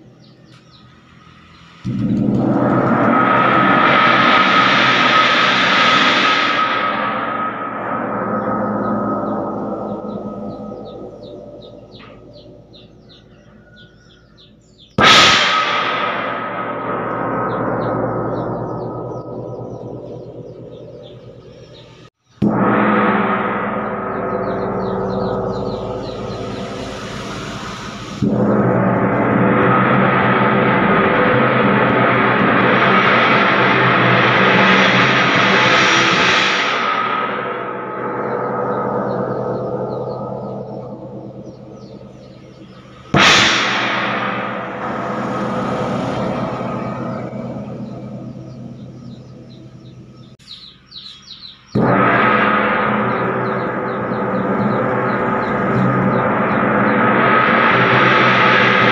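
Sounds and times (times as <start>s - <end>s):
gong ringing: 0.0s - 13.5s, 22.4s - 50.4s, 51.8s - 58.9s.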